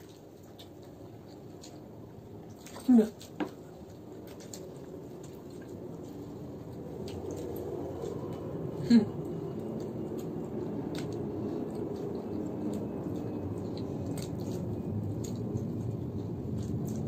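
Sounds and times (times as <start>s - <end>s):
low background noise: 0.0s - 17.0s
people chewing french fries: 0.0s - 17.0s.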